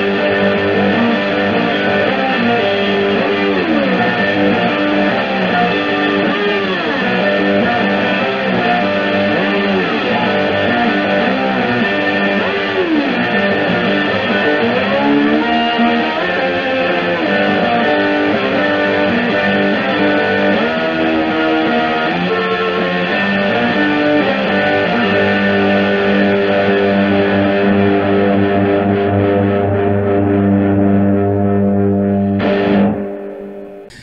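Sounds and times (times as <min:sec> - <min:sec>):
electric guitar: 0:00.0 - 0:34.0.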